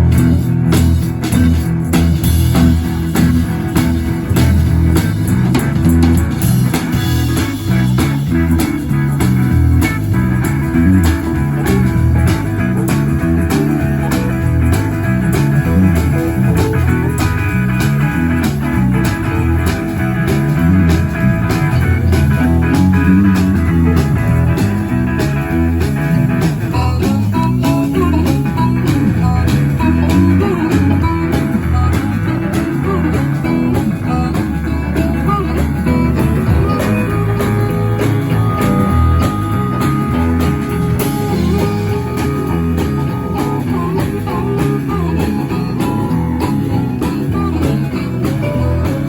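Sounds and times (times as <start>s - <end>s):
electric guitar: 0.0s - 49.0s
steady drum beat: 0.0s - 49.0s
walking bass line: 0.0s - 49.0s.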